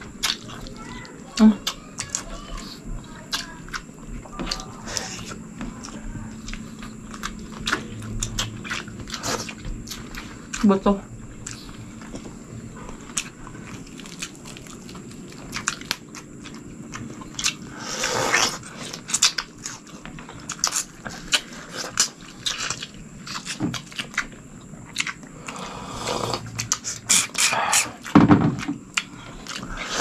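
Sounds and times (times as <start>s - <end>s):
people biting and chewing: 0.0s - 30.0s.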